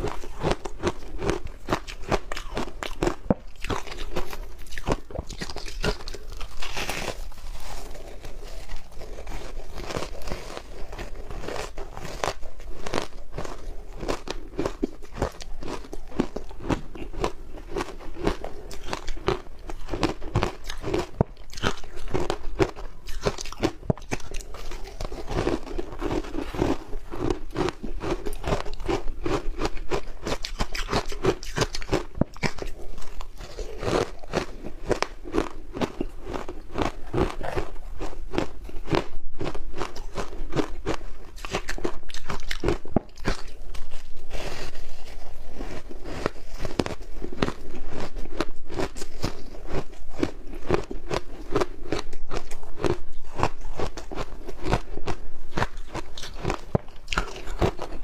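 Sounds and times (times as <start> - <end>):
crunchy ice being chewed: 0.0 - 58.0.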